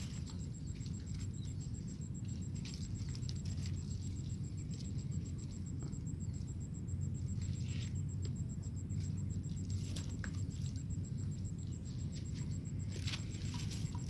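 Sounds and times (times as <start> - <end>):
constant low rumble: 0.0 - 14.0
faint high chirps and ticks: 0.0 - 14.0.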